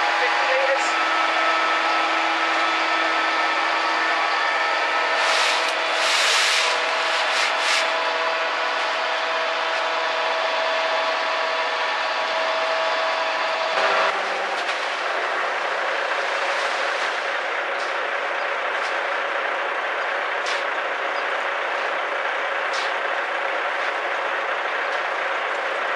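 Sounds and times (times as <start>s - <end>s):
concrete mixer truck humming: 0.0s - 25.9s.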